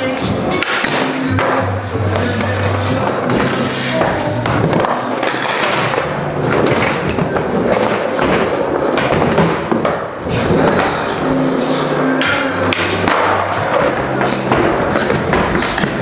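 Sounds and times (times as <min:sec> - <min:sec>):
background music: 0:00.0 - 0:16.0
skateboard wheels rolling: 0:00.0 - 0:16.0.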